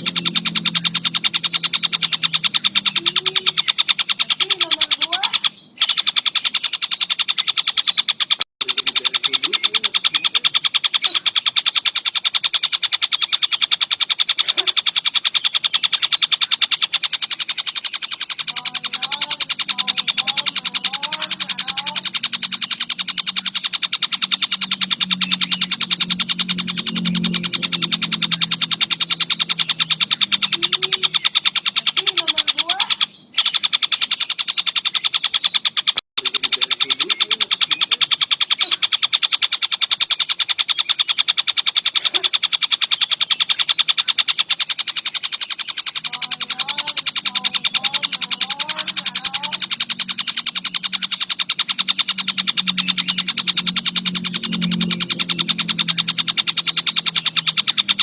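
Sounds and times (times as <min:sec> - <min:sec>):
faint bird chirps: 0:00.0 - 0:58.0
kingfisher rattling call: 0:00.0 - 0:58.0.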